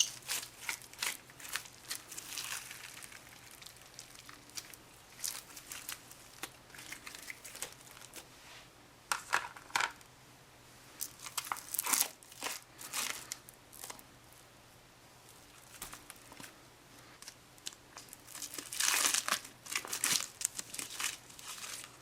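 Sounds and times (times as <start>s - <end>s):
dried slime crackling by hand: 0.0s - 8.3s, 11.0s - 14.4s, 15.3s - 22.0s.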